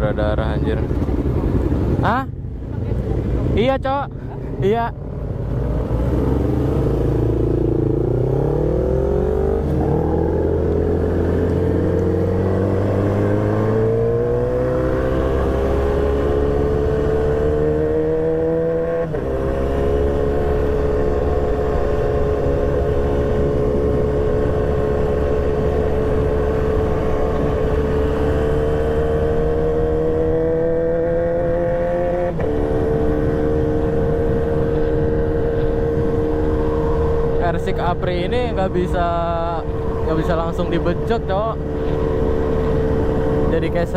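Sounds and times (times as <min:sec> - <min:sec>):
motorcycle engine accelerating: 0:05.0 - 0:43.9.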